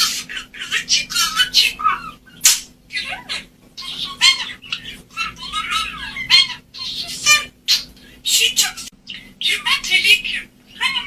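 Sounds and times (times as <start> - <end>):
budgerigars warbling and chattering: 0.0 - 11.0.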